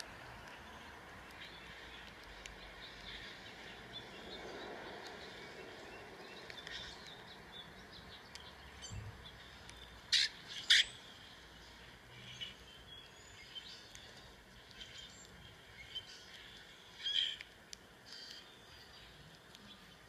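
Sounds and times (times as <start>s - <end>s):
small birds chirping on speaker: 0.0s - 20.0s.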